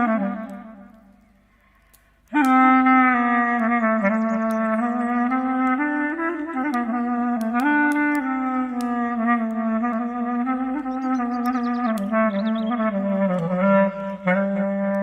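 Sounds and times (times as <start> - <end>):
slow clarinet melody: 0.0 - 1.2, 2.3 - 15.0
campfire crackling: 0.0 - 15.0.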